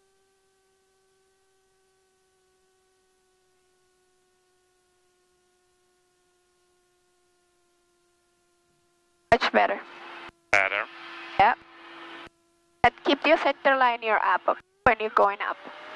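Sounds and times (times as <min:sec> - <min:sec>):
faint electrical whine: 0:00.0 - 0:15.9.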